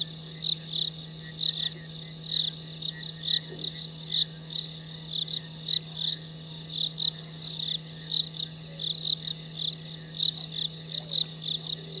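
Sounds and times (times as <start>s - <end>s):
frogs calling in chorus: 0.0s - 12.0s
steady low hum: 0.0s - 12.0s.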